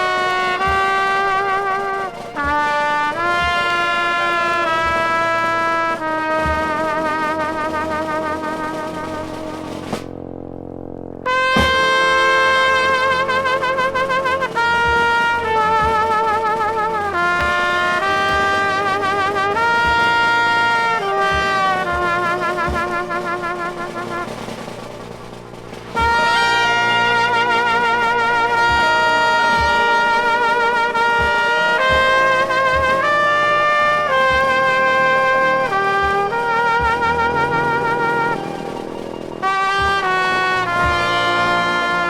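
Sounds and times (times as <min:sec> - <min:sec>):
trombone playing slow tune: 0:00.0 - 0:10.2, 0:11.2 - 0:42.0
trumpet playing slow tune: 0:00.0 - 0:10.2, 0:11.2 - 0:42.0
soft low beats: 0:00.0 - 0:42.0.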